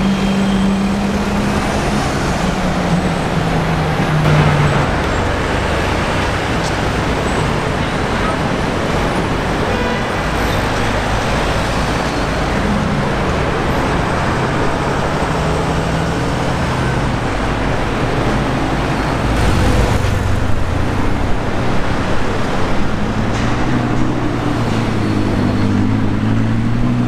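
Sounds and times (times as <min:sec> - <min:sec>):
bus passing: 0:00.0 - 0:27.0
city street traffic: 0:00.0 - 0:27.0.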